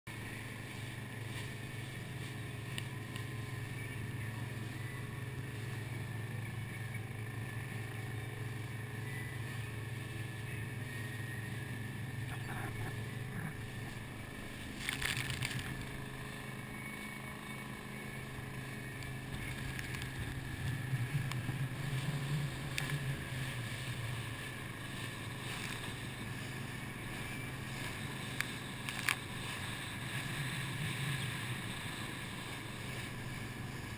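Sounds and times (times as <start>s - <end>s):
boat engine humming: 0.1s - 33.9s
noisy burst: 0.1s - 33.9s
water noise: 0.1s - 33.9s
wind: 0.1s - 33.9s.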